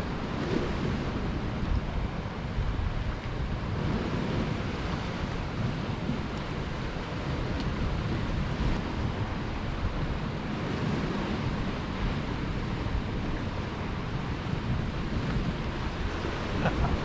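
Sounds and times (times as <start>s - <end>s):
sea swell washing against rocks: 0.0s - 17.0s
wind buffeting microphone: 0.0s - 17.0s.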